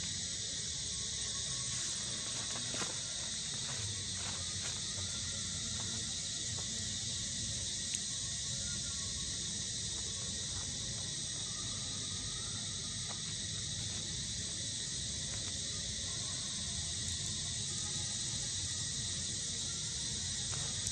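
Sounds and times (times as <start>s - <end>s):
forest insects droning: 0.0s - 20.9s.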